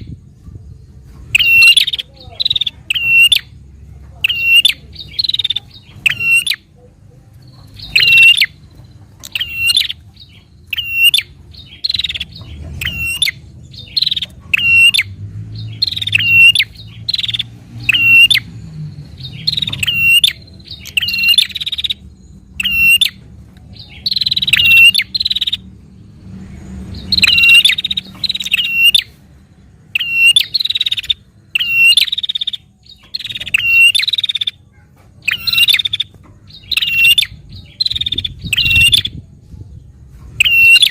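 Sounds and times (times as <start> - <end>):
bird chirping sharply: 1.2 - 6.8, 7.4 - 39.3, 40.3 - 40.9.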